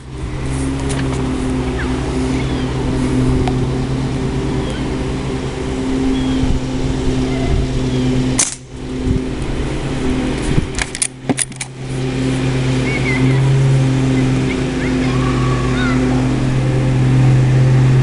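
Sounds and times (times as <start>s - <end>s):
steady engine hum: 0.0s - 18.0s.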